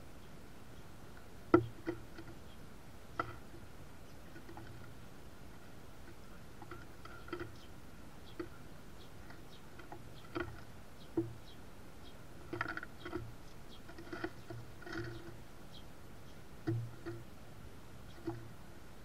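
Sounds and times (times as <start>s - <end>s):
beaks tapping seeds on wood: 1.1s - 17.3s, 18.0s - 18.6s.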